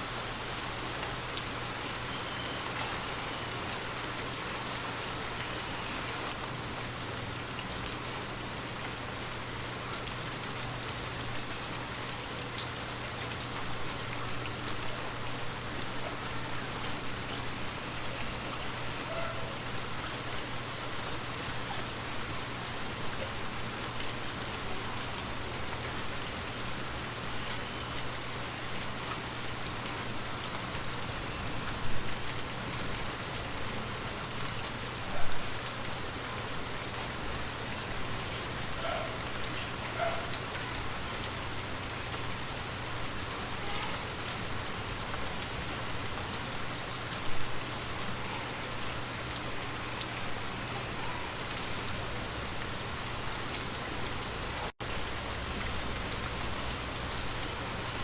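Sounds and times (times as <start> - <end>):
rain pattering on a surface: 0.0 - 58.0.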